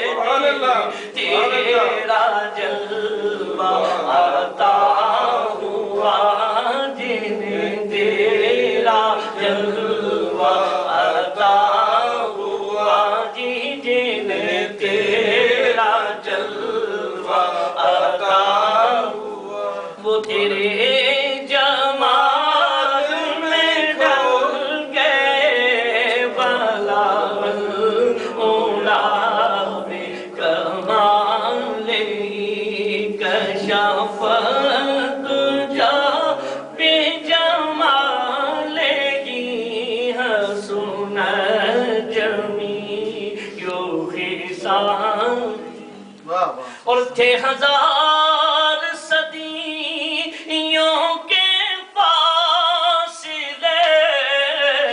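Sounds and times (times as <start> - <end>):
man singing into microphone: 0.0 - 54.9.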